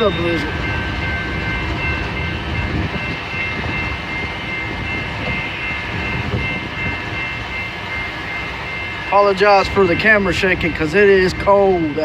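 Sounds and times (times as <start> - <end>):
diesel locomotive rumble: 0.0 - 12.0
high-pitched whines: 0.0 - 12.0.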